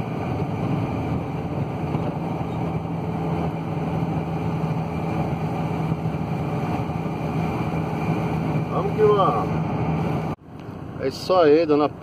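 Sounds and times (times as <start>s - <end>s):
van diesel engine and road noise: 0.0s - 12.0s.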